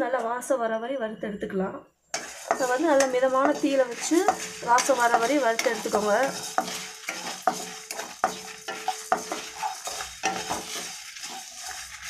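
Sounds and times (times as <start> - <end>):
spatula stirring spices in a pan: 2.1 - 12.0.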